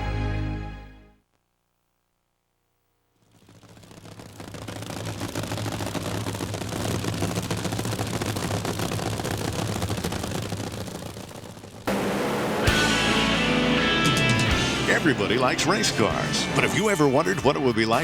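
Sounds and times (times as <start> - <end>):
race car engine running: 3.2 - 18.0.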